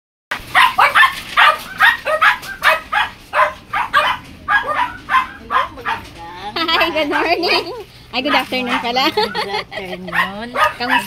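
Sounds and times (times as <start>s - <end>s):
dog barking: 0.3s - 6.1s, 7.1s - 7.6s, 8.2s - 11.0s.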